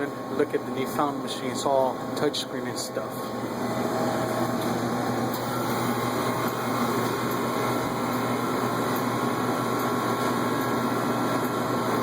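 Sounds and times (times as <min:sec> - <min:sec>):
mechanical hum of equipment: 0:00.0 - 0:12.0.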